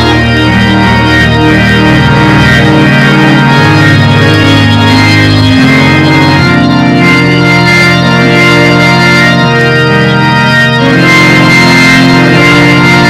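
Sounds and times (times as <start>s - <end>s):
organ playing held chords: 0.0s - 13.0s.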